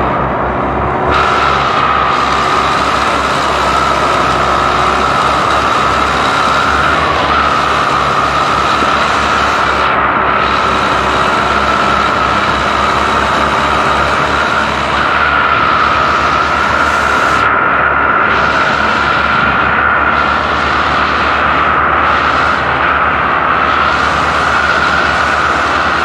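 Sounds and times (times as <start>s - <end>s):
tractor diesel engines under load: 0.0s - 26.0s.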